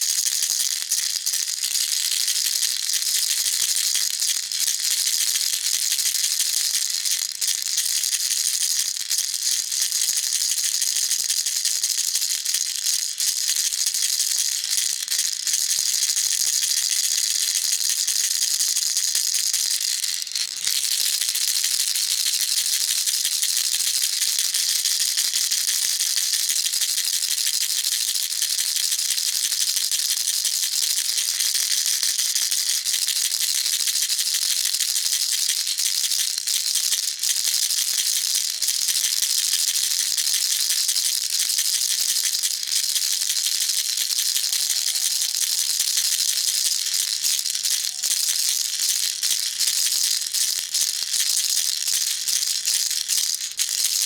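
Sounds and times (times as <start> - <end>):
baby rattle shaking: 0.0 - 54.0.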